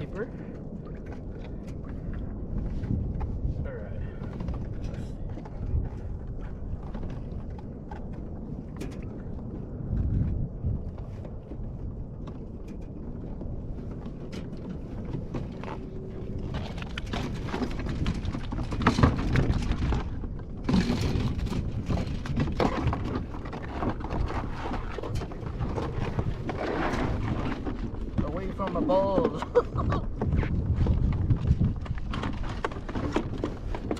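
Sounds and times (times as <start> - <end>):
wind rumbling on microphone: 0.0 - 33.9.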